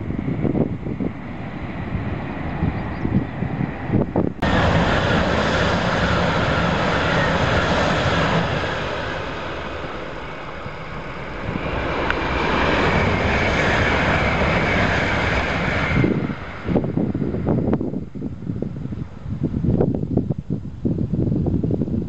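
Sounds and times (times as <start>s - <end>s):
bullet trains passing: 0.0s - 19.8s
train high whine: 0.0s - 21.8s.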